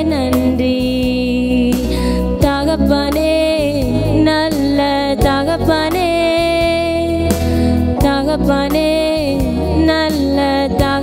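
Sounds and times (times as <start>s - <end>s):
backing music: 0.0s - 11.0s
woman singing: 0.0s - 11.0s.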